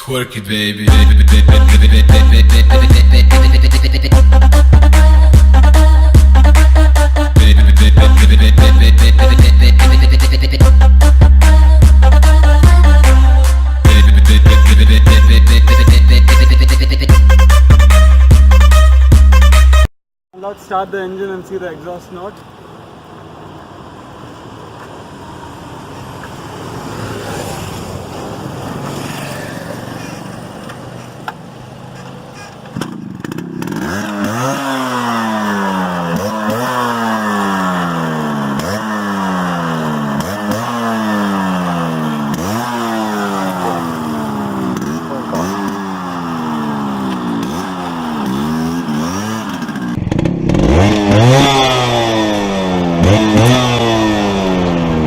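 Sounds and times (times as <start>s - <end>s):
two-stroke motorcycle engine revving: 0.9s - 19.9s, 24.8s - 55.0s.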